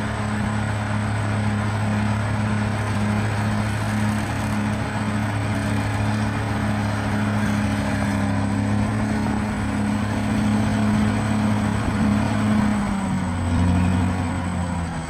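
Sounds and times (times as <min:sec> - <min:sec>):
bulldozer diesel engine drone: 0:00.0 - 0:15.0.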